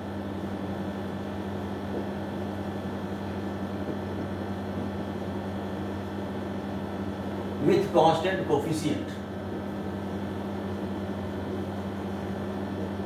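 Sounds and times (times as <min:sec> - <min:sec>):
room hum and hiss: 0:00.0 - 0:13.0.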